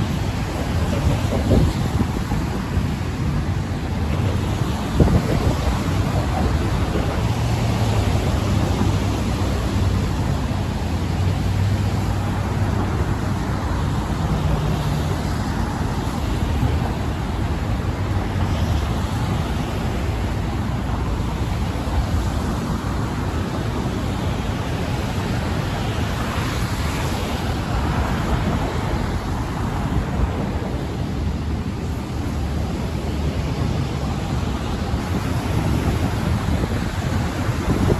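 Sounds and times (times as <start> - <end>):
city traffic rumble: 0.0 - 37.9
wind: 0.0 - 37.9.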